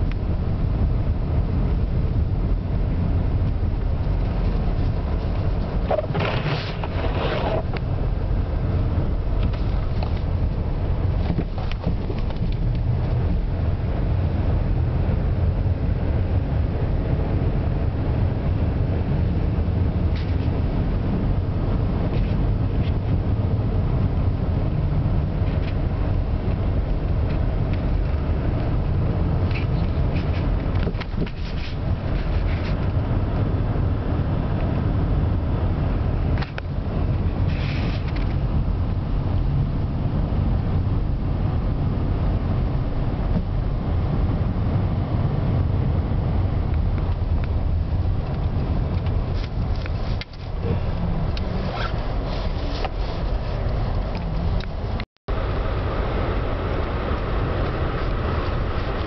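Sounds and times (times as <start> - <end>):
car driving rumble from cabin: 0.0 - 59.0.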